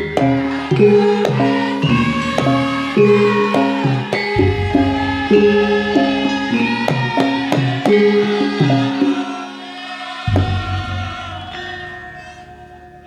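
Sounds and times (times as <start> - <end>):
sharp drum strokes: 0.0 - 12.0
gamelan metallic tones: 0.0 - 13.0.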